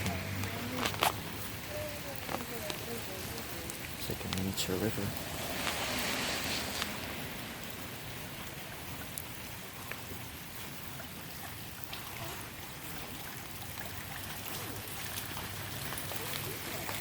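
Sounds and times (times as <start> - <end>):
rain falling: 0.0 - 17.0
rainwater streaming along ground: 0.0 - 17.0.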